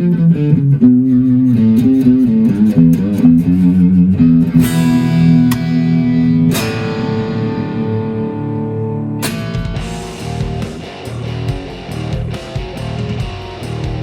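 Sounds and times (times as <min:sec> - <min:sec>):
electric guitar notes and chords: 0:00.0 - 0:14.0.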